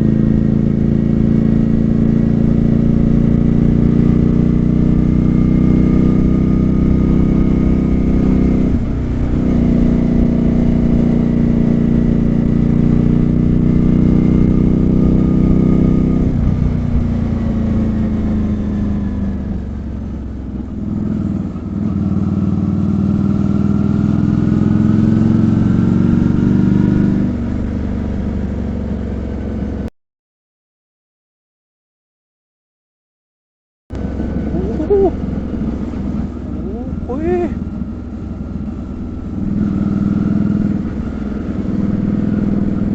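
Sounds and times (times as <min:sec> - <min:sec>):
motorcycle engine revving: 0:00.0 - 0:29.9, 0:33.9 - 0:42.9.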